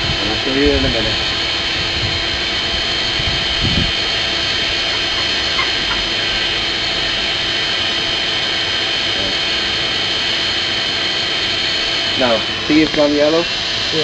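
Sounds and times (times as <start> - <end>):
forge air blower rushing: 0.0 - 14.0.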